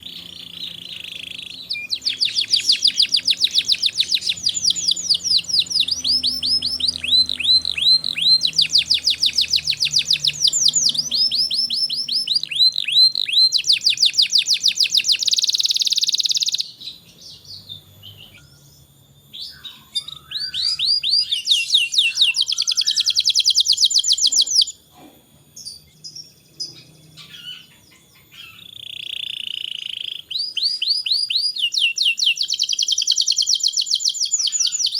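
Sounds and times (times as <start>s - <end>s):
short bird chirps: 0.0s - 24.8s, 26.6s - 34.9s
canary singing trills: 0.0s - 25.0s, 25.6s - 34.9s.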